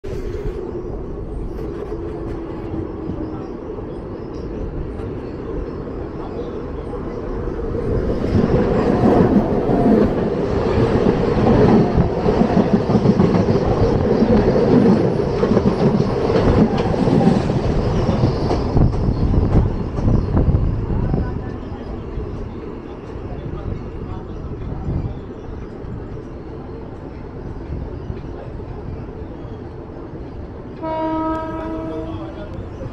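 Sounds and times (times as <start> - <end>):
passing train rushing clatter: 0.0 - 32.9
train wheels rumbling on rail: 0.0 - 32.9.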